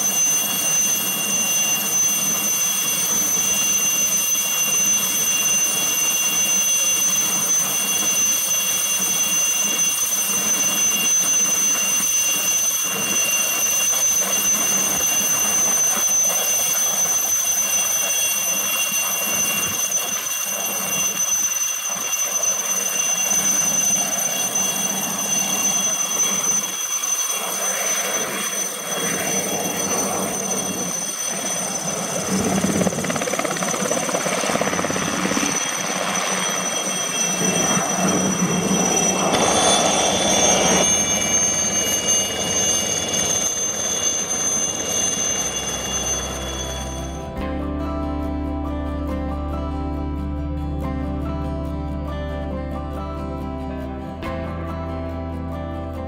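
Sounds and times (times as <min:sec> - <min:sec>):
helicopter in flight: 0:00.0 - 0:47.7.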